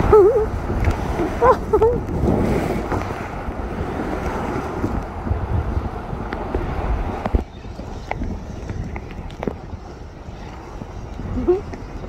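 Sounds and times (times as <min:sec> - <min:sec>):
heavy low rumble: 0:00.0 - 0:12.0
rushing water: 0:00.0 - 0:12.0
wind noise: 0:00.0 - 0:12.0.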